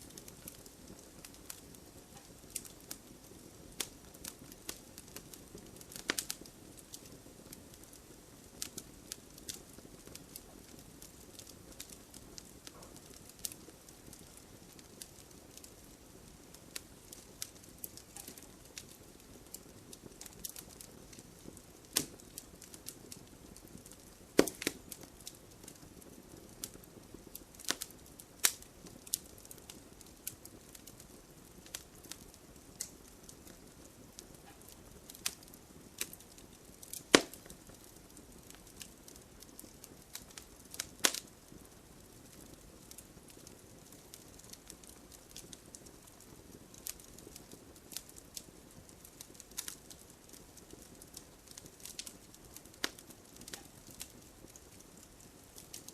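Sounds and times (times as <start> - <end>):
fire crackling and popping: 0.0 - 55.9
soft fire hiss: 0.0 - 55.9.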